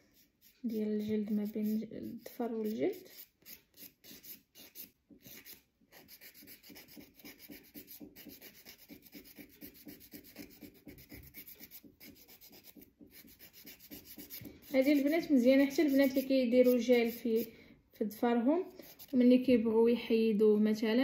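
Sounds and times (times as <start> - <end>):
nail file scratching fingernail: 0.0 - 17.5, 18.6 - 19.2.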